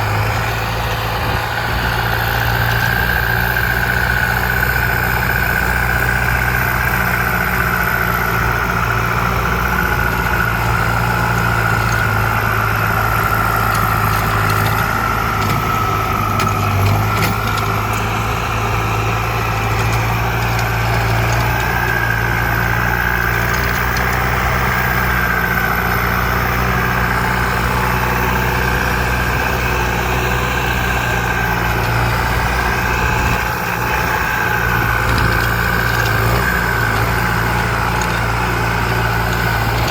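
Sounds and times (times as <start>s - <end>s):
tractor engine droning with whine: 0.0s - 39.9s.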